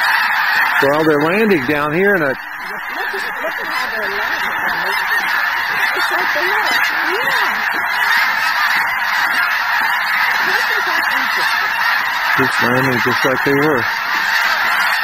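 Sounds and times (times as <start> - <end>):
flock of geese honking: 0.0 - 15.0.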